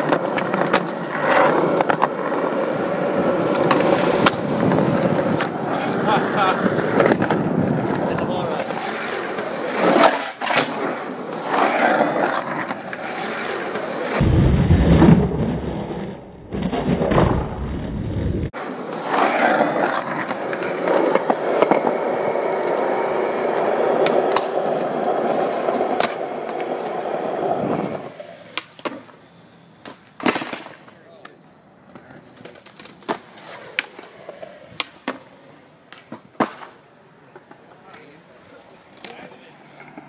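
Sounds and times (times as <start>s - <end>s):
skateboard clacks: 0.0s - 14.2s, 18.5s - 29.2s, 29.8s - 40.0s
skateboard wheels rolling on concrete: 0.0s - 40.0s.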